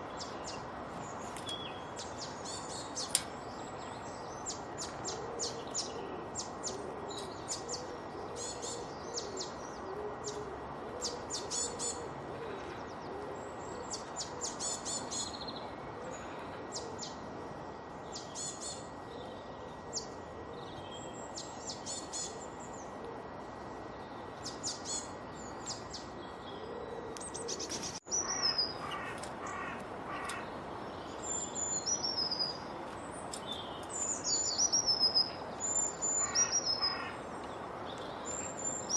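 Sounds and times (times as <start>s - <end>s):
background hiss: 0.0s - 38.9s
songbirds chirping and trilling: 0.0s - 38.9s.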